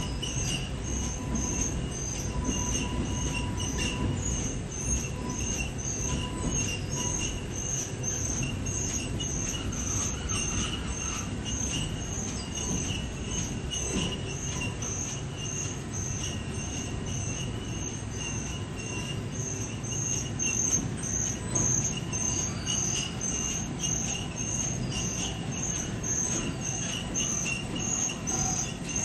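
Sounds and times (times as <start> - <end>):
industrial machinery rumble: 0.0 - 29.0
pulsing high-pitched squeal: 0.0 - 29.0.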